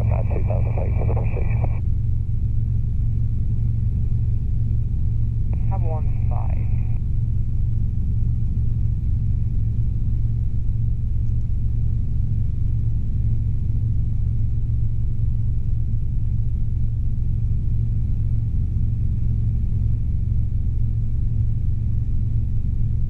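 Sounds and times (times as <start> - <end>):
helicopter drone from inside cabin: 0.0 - 23.0.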